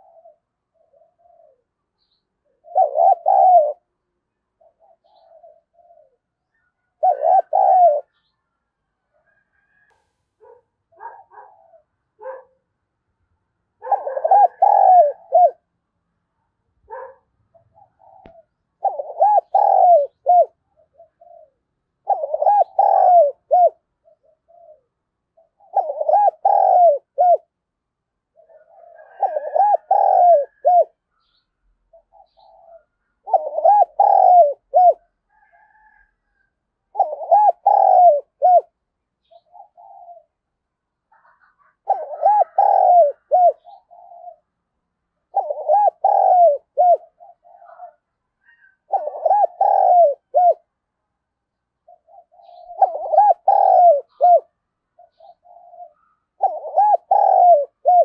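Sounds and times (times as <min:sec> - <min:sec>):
dove cooing: 0:00.0 - 0:08.3, 0:09.1 - 0:12.6, 0:13.8 - 0:15.7, 0:16.9 - 0:27.6, 0:28.3 - 0:40.5, 0:41.1 - 0:44.6, 0:45.2 - 0:50.7, 0:51.8 - 0:58.0.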